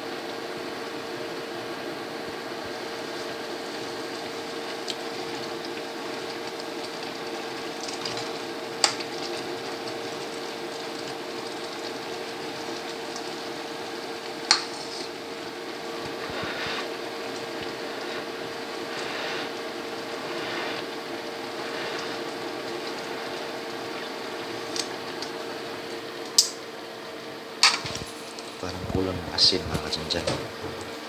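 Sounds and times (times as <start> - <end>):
pot boiling bubbling: 0.0 - 31.0
steady hum: 0.0 - 31.0.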